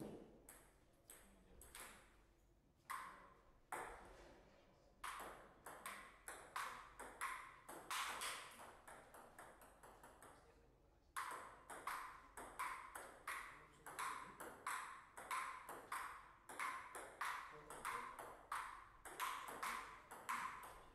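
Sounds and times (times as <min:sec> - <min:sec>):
table tennis ball hits: 0:00.0 - 0:02.1, 0:02.9 - 0:04.1, 0:05.0 - 0:10.4, 0:11.2 - 0:20.9.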